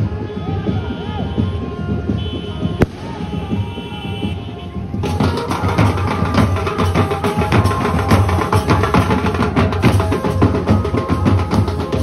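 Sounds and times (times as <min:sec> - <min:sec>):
loud fast drumming: 0:00.0 - 0:12.0.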